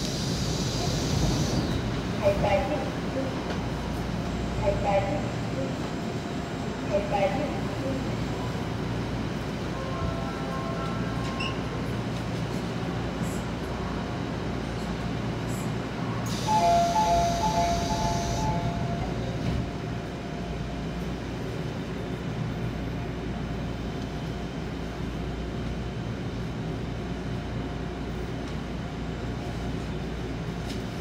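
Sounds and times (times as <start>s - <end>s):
train low hum: 0.0s - 31.0s.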